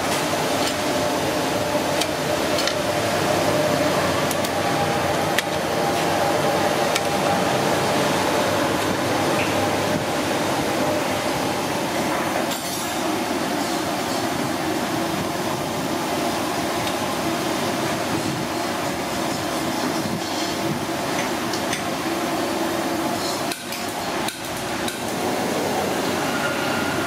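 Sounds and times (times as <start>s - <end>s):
loud steady rushing noise: 0.0s - 27.0s.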